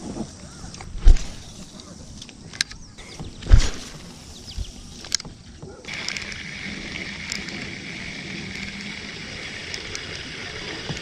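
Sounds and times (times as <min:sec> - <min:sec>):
hiss of water and wind: 0:00.0 - 0:11.0.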